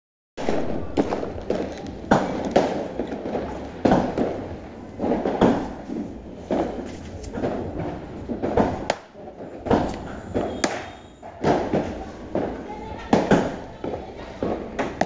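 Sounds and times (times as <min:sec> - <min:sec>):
fireworks bangs echoing: 0:00.4 - 0:15.0.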